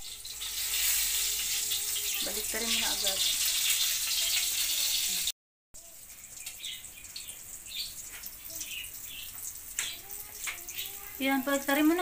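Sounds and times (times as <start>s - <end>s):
sausages sizzling in a wok: 0.0s - 12.0s.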